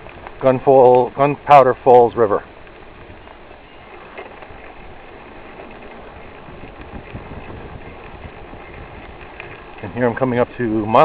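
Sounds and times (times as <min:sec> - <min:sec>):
bicycle tyres on gravel: 0:00.0 - 0:11.0
bike clicks and rattles: 0:00.0 - 0:11.0.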